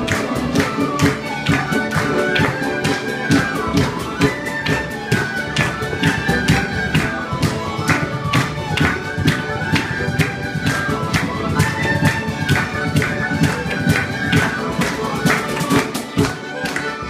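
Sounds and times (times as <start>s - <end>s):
fiddle melody: 0.0s - 17.0s.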